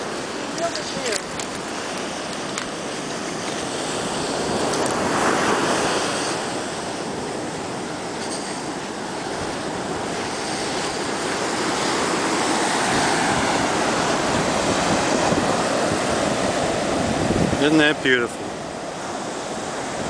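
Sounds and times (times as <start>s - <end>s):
waves crashing on beach: 0.0s - 20.0s.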